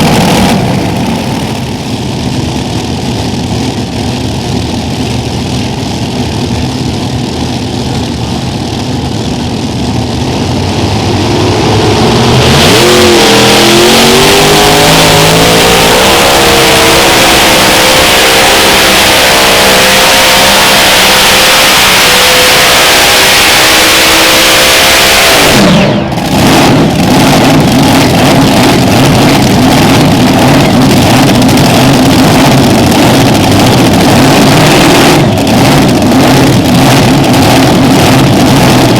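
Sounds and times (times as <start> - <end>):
tractor engines revving: 0.0 - 38.9.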